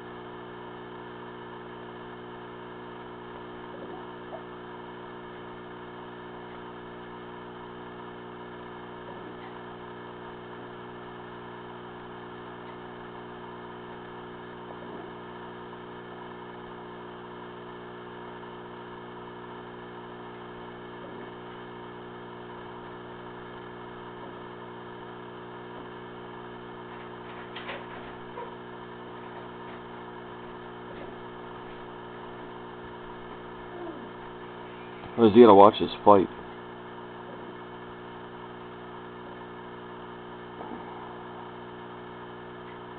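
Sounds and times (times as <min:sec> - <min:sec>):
electrical hum: 0:00.0 - 0:42.9.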